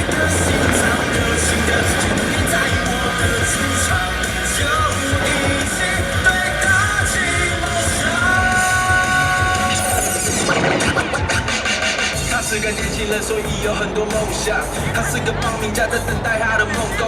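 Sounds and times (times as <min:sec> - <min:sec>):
pop-rock song with singing: 0:00.0 - 0:17.0.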